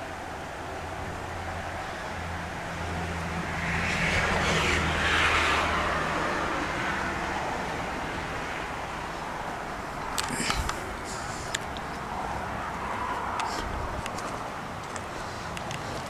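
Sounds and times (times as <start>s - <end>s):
vehicle passing: 0.0s - 16.0s.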